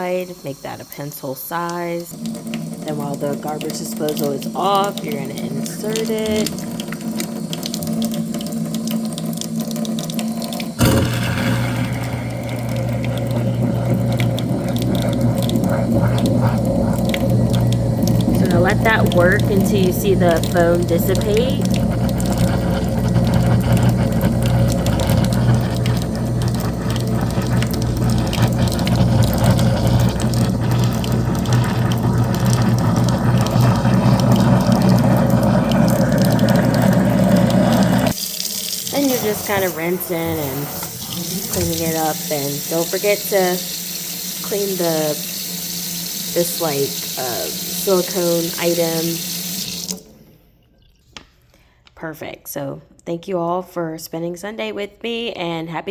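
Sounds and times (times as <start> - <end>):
tap water trickling: 0.0 - 50.1
garbage disposal grinding: 0.0 - 50.4.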